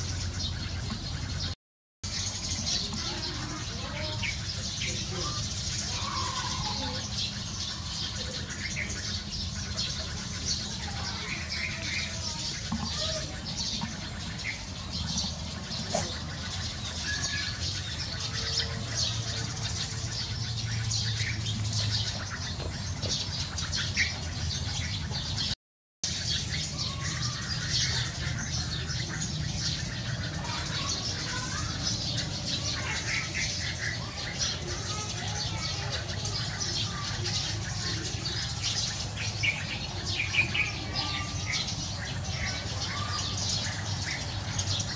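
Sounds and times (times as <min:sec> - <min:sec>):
sparrows chirping: 0:00.0 - 0:44.9.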